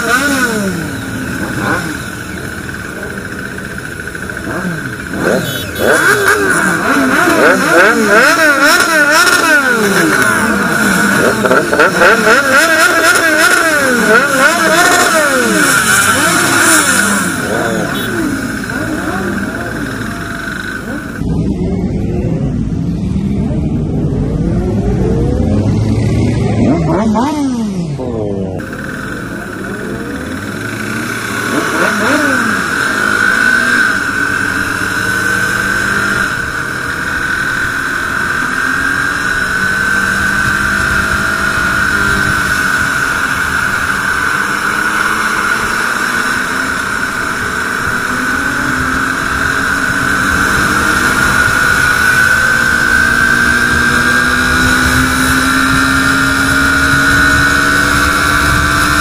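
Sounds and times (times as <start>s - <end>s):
motorcycle engine running: 0.0s - 59.0s
road and wind noise: 0.0s - 59.0s
sport bikes revving: 0.0s - 59.0s.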